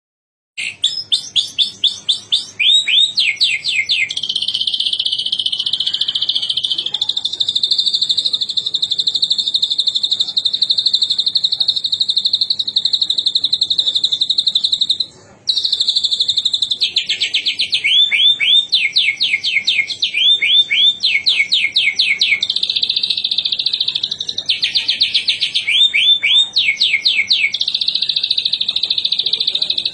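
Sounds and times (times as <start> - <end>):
bird singing rolling trill: 0.6 - 29.9.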